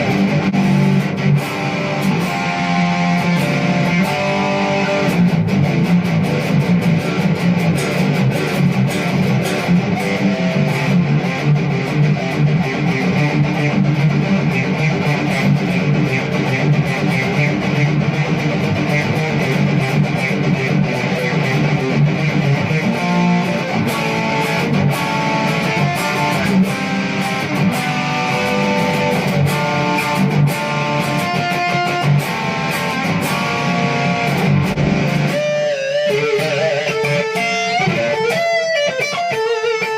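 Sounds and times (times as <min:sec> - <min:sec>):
distorted electric guitar riffs: 0:00.0 - 0:39.9.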